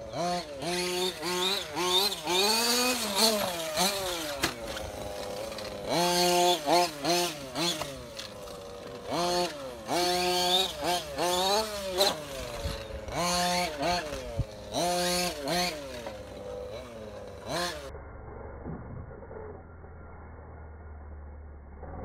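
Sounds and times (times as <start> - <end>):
toy truck engine revving: 0.0 - 22.0.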